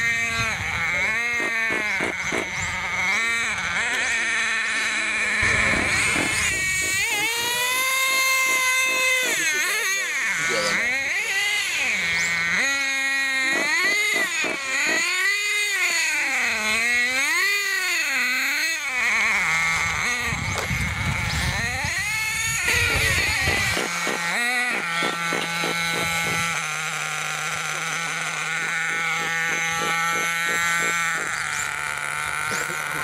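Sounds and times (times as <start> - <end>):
model car engine revving: 0.0 - 33.0.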